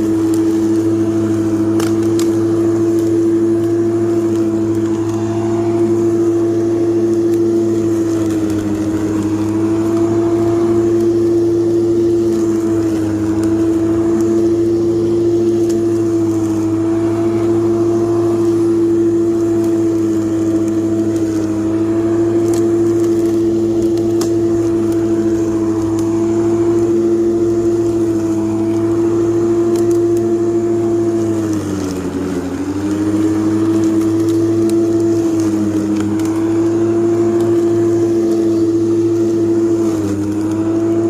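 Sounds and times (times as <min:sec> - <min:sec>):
electric lawn mower humming: 0:00.0 - 0:41.0.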